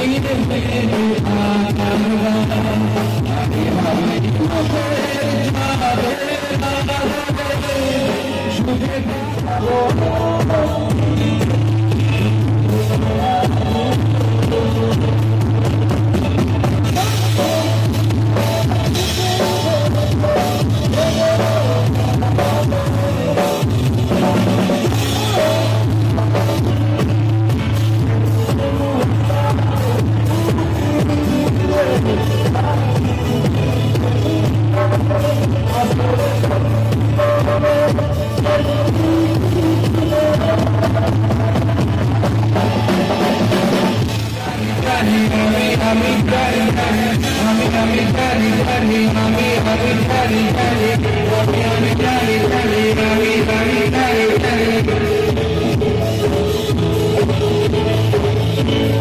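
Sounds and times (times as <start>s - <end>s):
bass guitar: 0.0s - 59.0s
drum kit: 0.0s - 59.0s
electric guitar: 0.0s - 59.0s
person singing: 0.0s - 59.0s.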